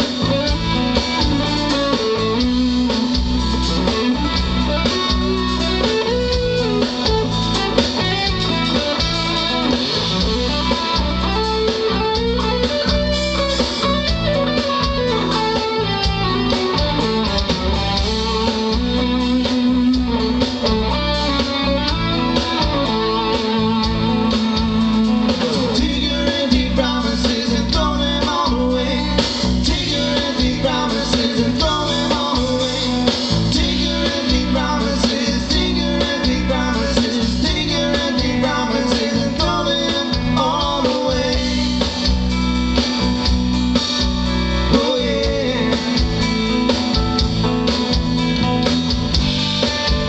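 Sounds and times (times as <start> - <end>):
bass guitar: 0.0 - 50.0
electric guitar: 0.0 - 50.0
steady drum beat: 0.0 - 50.0.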